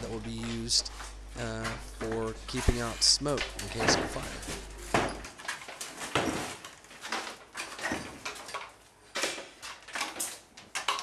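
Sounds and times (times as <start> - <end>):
sharp knocks and clatters: 0.3 - 11.0.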